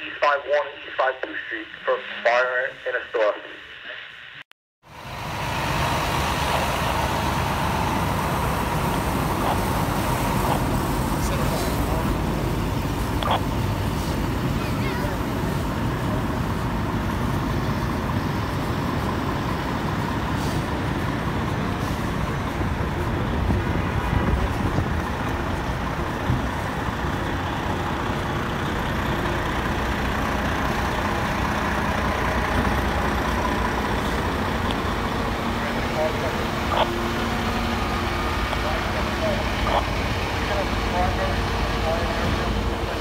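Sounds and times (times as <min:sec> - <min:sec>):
diesel engines running: 0:00.0 - 0:43.0
street noise: 0:00.0 - 0:43.0.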